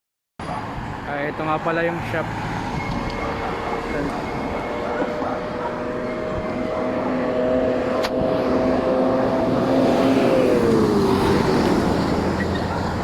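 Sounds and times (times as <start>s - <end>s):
vehicle engine humming: 0.4s - 13.0s.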